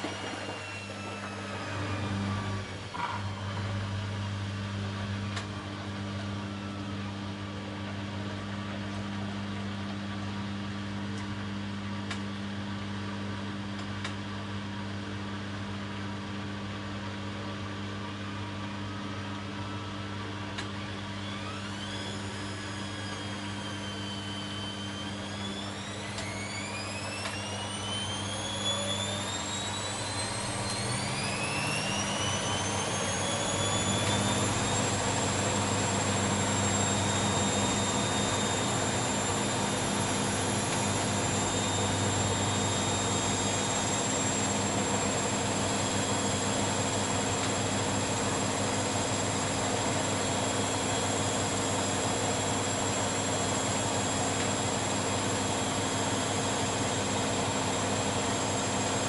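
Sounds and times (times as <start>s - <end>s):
motor whine rising in pitch: 0.0s - 16.8s, 17.4s - 59.0s
washing machine humming: 0.0s - 59.0s.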